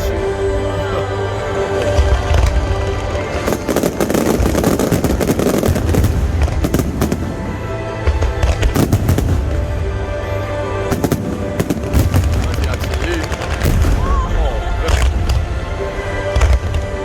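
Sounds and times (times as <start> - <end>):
fireworks crackling bursts: 1.1 - 17.0
fireworks low booms: 1.8 - 10.1, 10.9 - 17.0.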